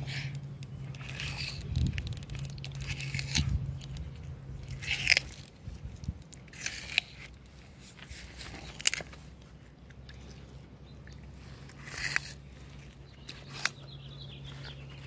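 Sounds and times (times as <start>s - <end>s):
tortoise chewing watermelon: 0.0s - 15.0s
wet crunches of rind: 0.1s - 15.0s.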